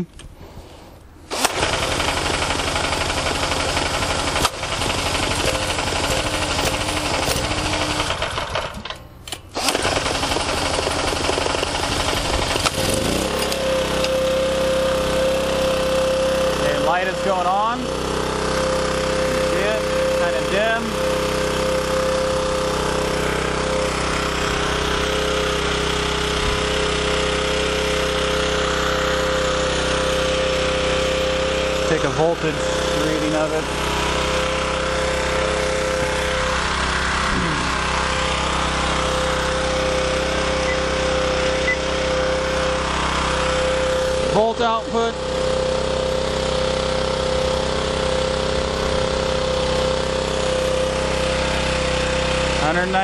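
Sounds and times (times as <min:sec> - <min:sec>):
generator running: 0:00.0 - 0:53.0.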